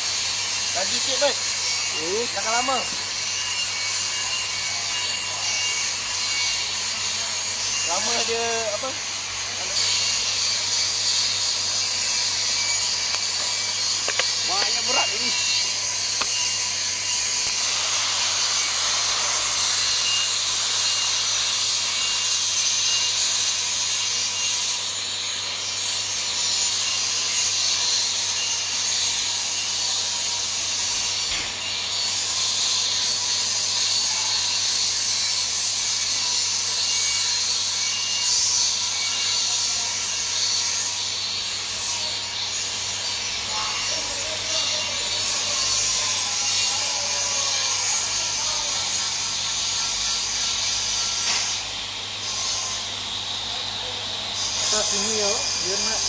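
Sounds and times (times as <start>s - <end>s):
welding arc hissing: 0.0s - 56.0s.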